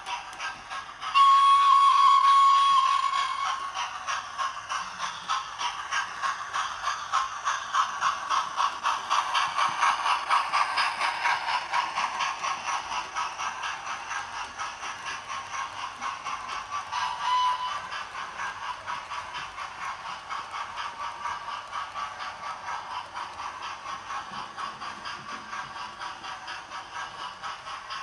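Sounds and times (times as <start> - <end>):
steam locomotive chuffs from small speaker: 0.0 - 28.0.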